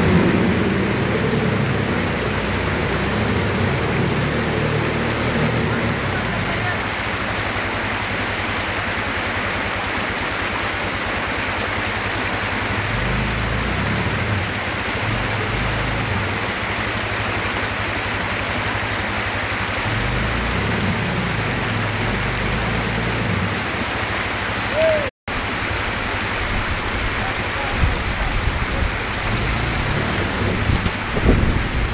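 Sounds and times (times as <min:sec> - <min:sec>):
atv engine running: 0:00.0 - 0:31.9
water rushing over rocks: 0:00.0 - 0:31.9.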